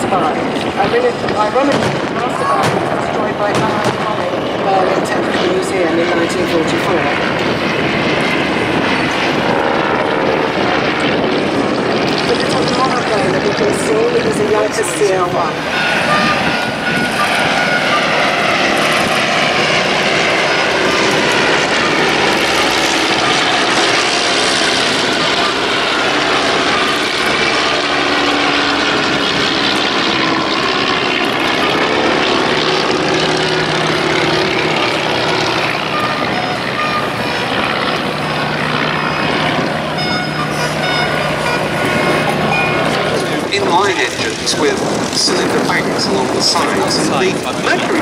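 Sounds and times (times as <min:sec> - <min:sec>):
propeller plane engines: 0:00.0 - 0:48.0.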